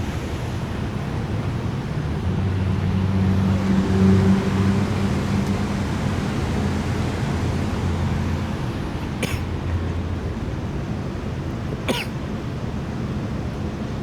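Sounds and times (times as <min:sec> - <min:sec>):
storm wind and rain: 0:00.0 - 0:11.6.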